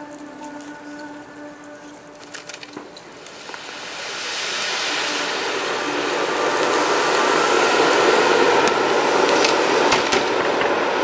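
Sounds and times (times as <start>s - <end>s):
firework crackles: 0.0s - 11.0s
firework fountains hissing: 0.0s - 11.0s.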